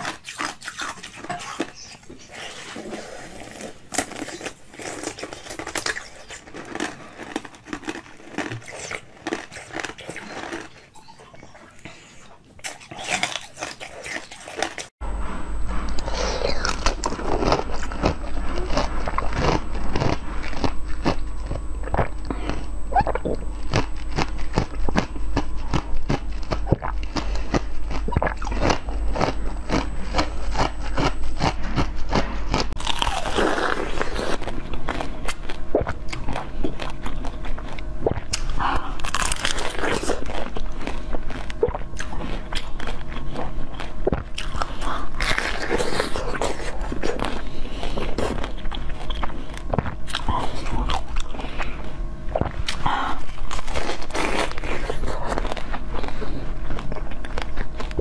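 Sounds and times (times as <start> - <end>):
chewing crunchy jelly: 0.0 - 58.0.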